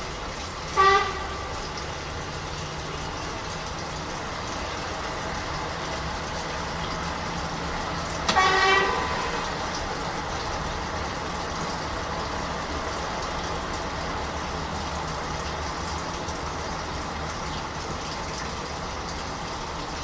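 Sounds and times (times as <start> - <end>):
washing machine churning: 0.0 - 20.0.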